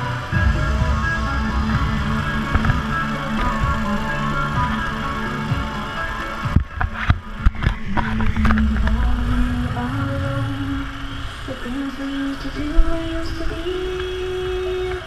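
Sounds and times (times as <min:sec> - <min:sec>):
low rumble: 0:00.0 - 0:15.0
music over loudspeakers: 0:00.0 - 0:15.0.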